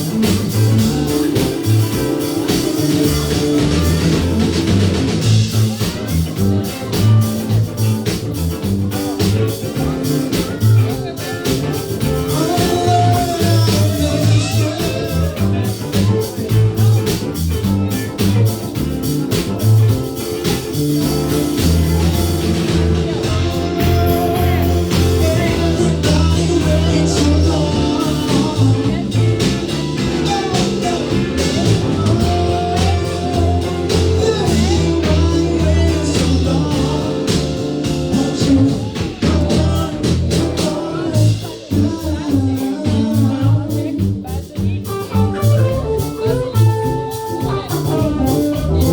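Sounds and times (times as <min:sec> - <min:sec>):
person singing: 0:00.0 - 0:48.9
rock blues band playing: 0:00.0 - 0:48.9
steady drum beat: 0:00.0 - 0:48.9.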